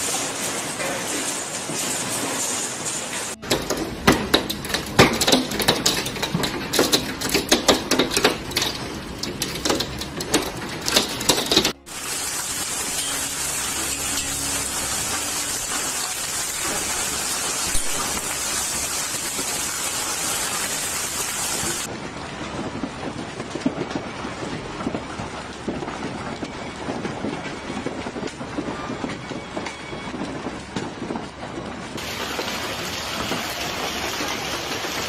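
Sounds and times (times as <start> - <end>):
hailstones clattering on a window: 0.0 - 29.6, 31.9 - 35.0
hail and rain falling into water: 0.0 - 31.1, 32.0 - 35.0.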